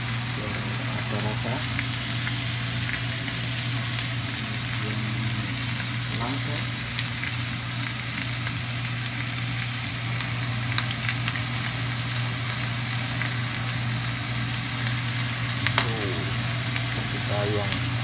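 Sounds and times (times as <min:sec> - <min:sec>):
steaks sizzling in a frying pan: 0:00.0 - 0:18.0.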